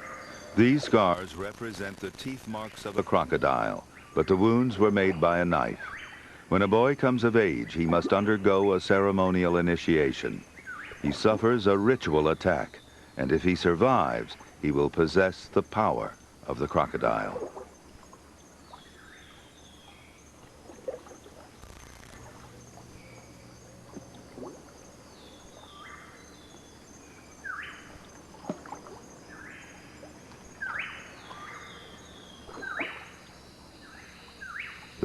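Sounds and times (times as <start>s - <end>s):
high insect drone: 0.0s - 35.0s.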